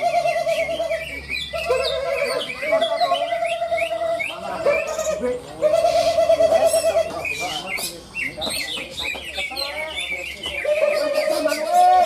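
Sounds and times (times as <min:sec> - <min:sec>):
high bird chirps: 0:00.0 - 0:05.2, 0:05.8 - 0:12.0
songbirds warbling trill: 0:00.0 - 0:12.0.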